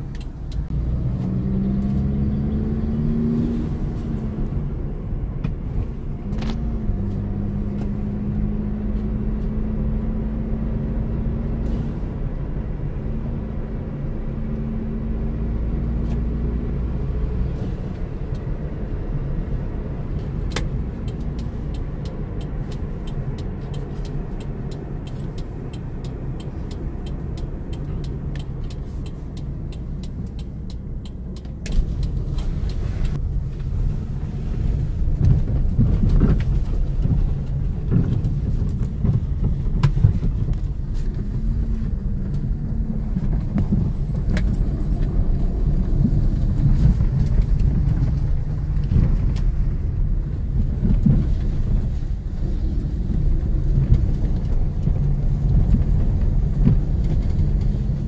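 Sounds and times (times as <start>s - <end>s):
car engine and tyre noise: 0.0s - 58.0s
car rumbling on dirt track: 0.0s - 58.0s.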